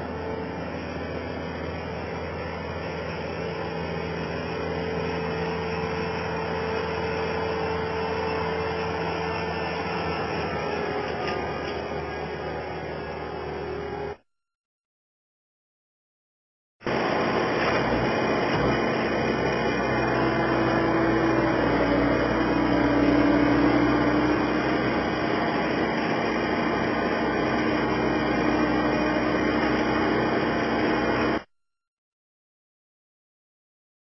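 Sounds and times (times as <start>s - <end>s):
skid steer engine running: 0.0s - 14.2s, 16.9s - 31.5s.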